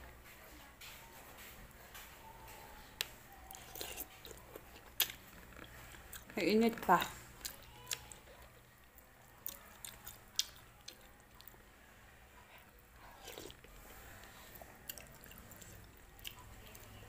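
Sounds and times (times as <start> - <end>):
faint chewing: 0.8 - 17.0.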